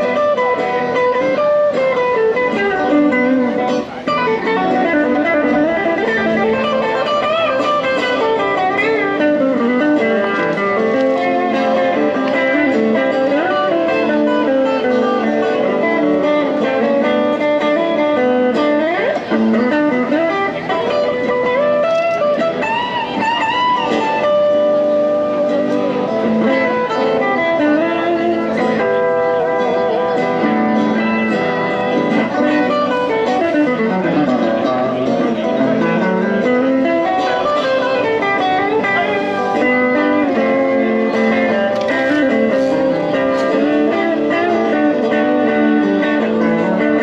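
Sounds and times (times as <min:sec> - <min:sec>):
guitar playing bluesy melody: 0:00.0 - 0:47.0.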